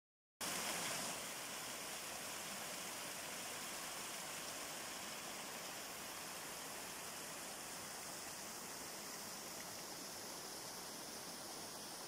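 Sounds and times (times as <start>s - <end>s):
water rushing down rocks: 0.4s - 12.0s.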